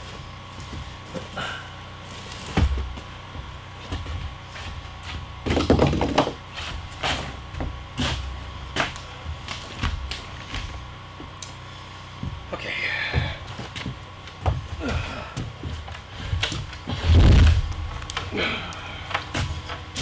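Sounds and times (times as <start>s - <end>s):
footsteps on plywood floor: 0.0s - 1.3s, 2.4s - 11.4s, 12.1s - 18.0s.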